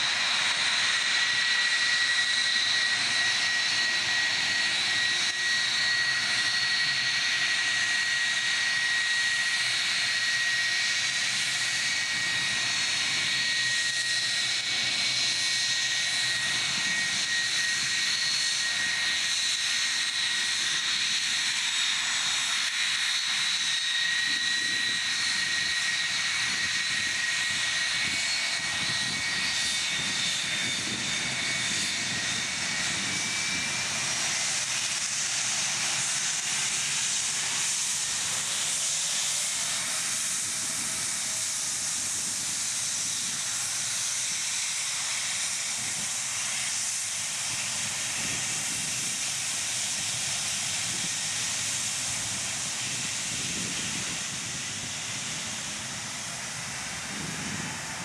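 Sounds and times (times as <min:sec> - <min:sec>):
jet engines at taxi power: 0:00.0 - 0:58.0
thin high engine whine: 0:00.0 - 0:58.0.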